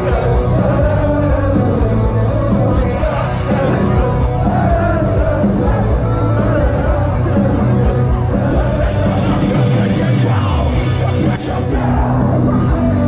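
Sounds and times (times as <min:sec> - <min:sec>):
live metal band playing: 0:00.0 - 0:13.0
person singing: 0:00.0 - 0:13.0.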